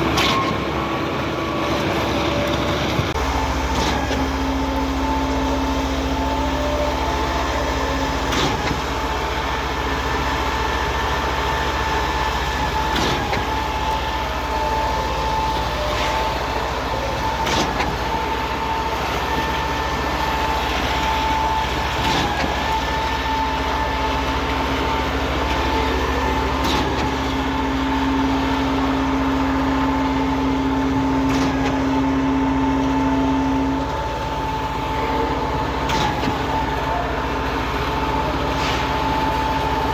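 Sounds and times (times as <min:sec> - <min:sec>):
concrete pump engine drone: 0:00.0 - 0:39.9.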